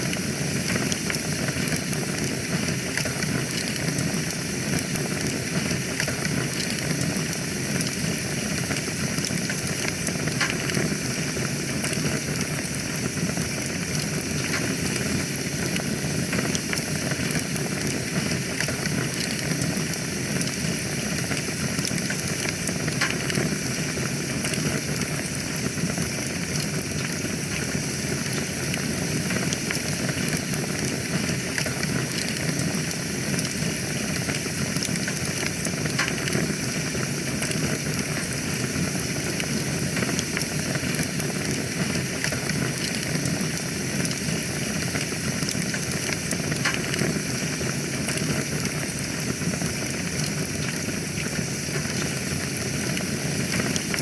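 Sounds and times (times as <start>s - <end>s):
fire crackling and popping: 0.0s - 54.0s
wood fire hissing: 0.0s - 54.0s.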